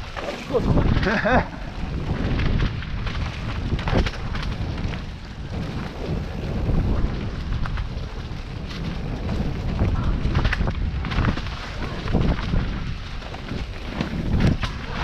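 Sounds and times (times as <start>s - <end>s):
bike rattling over bumps: 0.0s - 15.0s
bike tyres rolling on dirt trail: 0.0s - 15.0s
wind on microphone: 0.0s - 15.0s.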